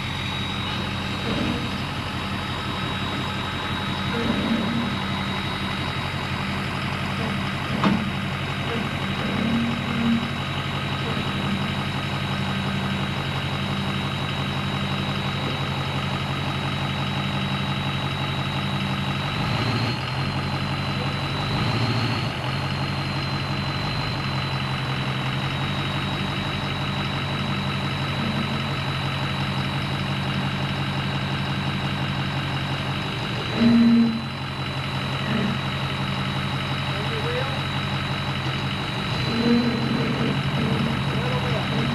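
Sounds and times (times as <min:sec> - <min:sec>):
high-pitched whine: 0:00.0 - 0:41.9
truck engine idling: 0:00.0 - 0:41.9.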